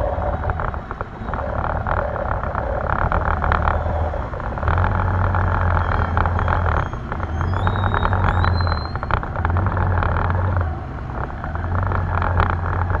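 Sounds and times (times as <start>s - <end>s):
muffled motorbike engine hum: 0.0s - 13.0s
rain and wind crackling on case: 0.0s - 13.0s.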